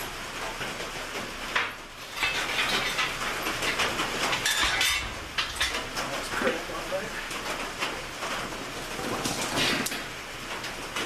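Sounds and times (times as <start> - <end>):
cart rolling on casters: 2.0 - 11.0.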